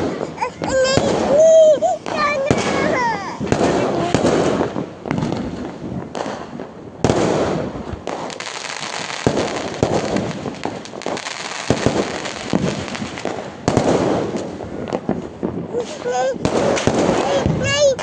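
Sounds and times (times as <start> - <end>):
firecrackers popping: 0.0 - 18.0
loud firecracker bangs: 0.0 - 18.0.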